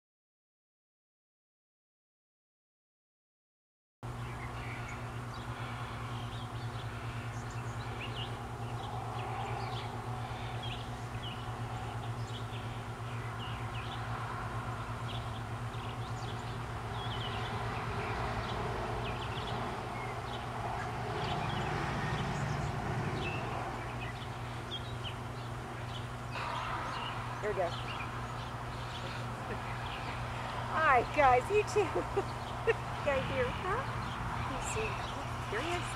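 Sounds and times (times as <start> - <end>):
steady low hum: 4.0 - 35.9.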